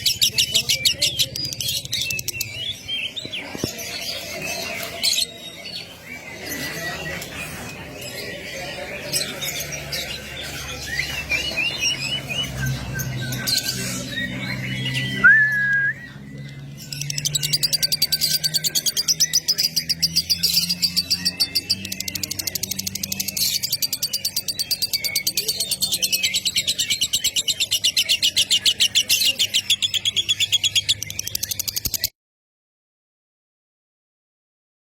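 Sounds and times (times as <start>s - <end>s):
songbird singing: 0.0s - 32.1s.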